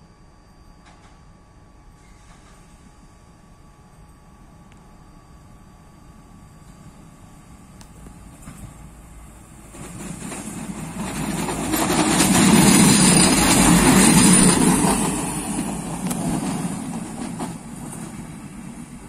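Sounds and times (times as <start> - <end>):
thin high whine: 0.0 - 19.0
train engine and wheels rumbling: 0.0 - 19.0.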